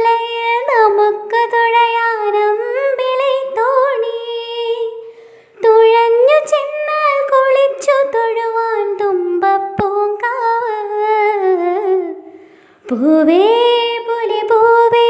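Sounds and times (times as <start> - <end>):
woman singing unaccompanied: 0.0 - 5.0, 5.6 - 15.0.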